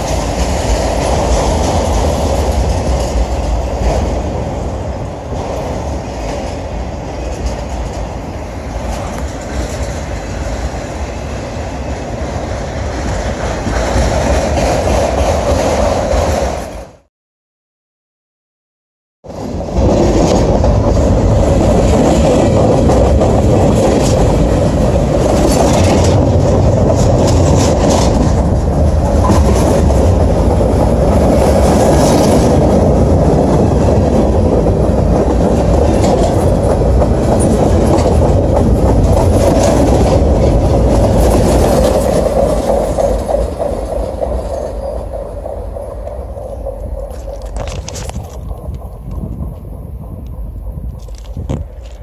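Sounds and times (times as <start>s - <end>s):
freight train cars rolling past: 0.0s - 17.1s, 19.2s - 52.0s.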